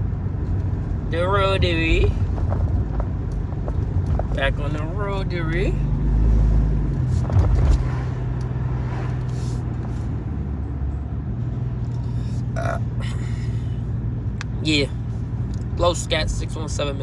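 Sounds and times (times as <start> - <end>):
car engine and tyre drone: 0.0 - 17.0
low rumble: 0.0 - 17.0.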